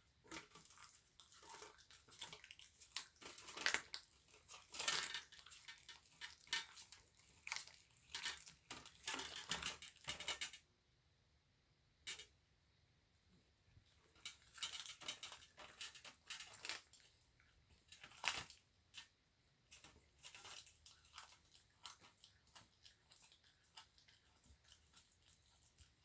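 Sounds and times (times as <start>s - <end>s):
bobcat crunching bones: 0.2s - 10.5s, 14.0s - 19.1s, 19.7s - 26.0s.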